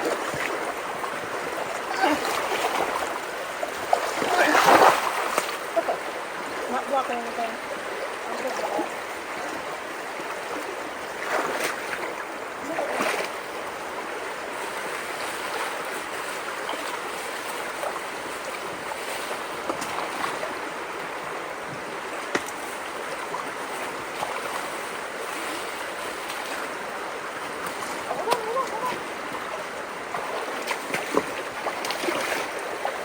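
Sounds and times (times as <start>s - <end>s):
creek water rushing: 0.0s - 33.0s
water splashing surges: 0.0s - 33.0s.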